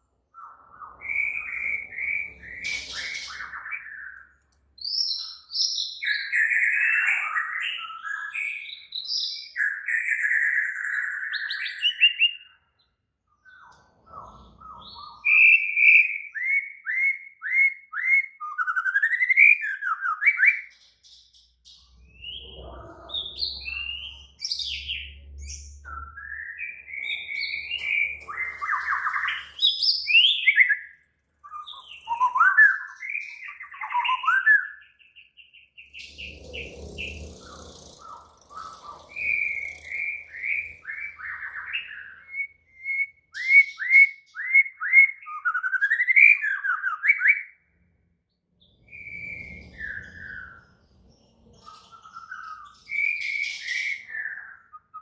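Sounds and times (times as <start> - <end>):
bird singing whistled song: 0.3 - 13.7, 14.6 - 47.7, 48.6 - 51.0, 51.6 - 55.0.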